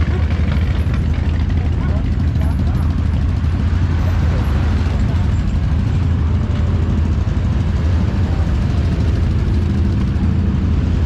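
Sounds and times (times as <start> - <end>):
off-road vehicle engine rumble: 0.0 - 11.0
road and wind noise: 0.0 - 11.0.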